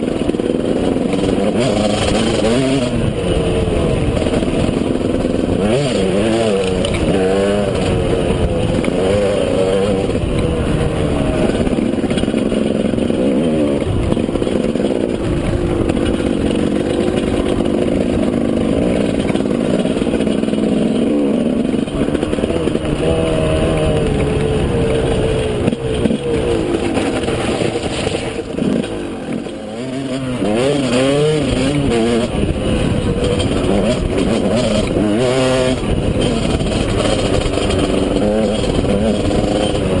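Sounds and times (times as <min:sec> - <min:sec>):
two-stroke motorcycle engine revving: 0:00.0 - 0:40.0.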